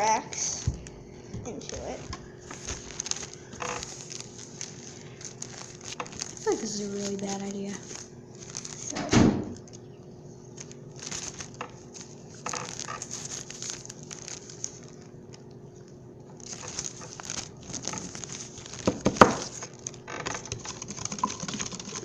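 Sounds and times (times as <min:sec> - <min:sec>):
rustling and crinkling handling: 0:00.0 - 0:22.0.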